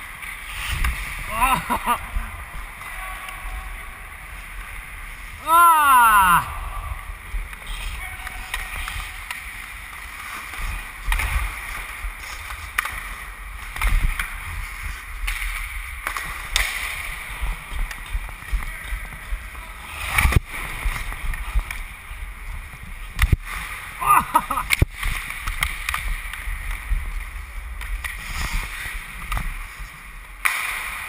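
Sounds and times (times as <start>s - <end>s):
hockey sticks and puck clacking: 0.0s - 5.5s, 6.4s - 31.0s
skates scraping on ice: 0.0s - 5.5s, 6.4s - 31.0s.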